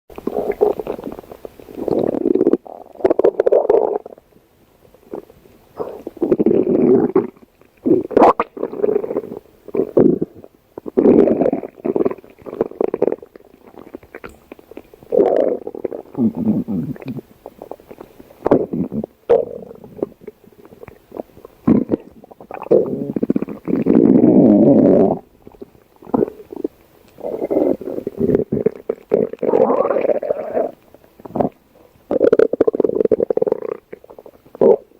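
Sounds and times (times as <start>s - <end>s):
stomach growling and gurgling: 0.1s - 4.3s, 4.9s - 34.9s.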